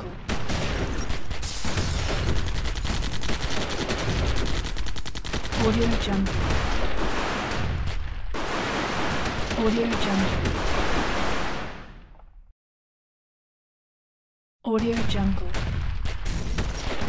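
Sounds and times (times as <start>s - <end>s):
guns firing in gunfight: 0.0s - 12.1s, 14.8s - 17.0s.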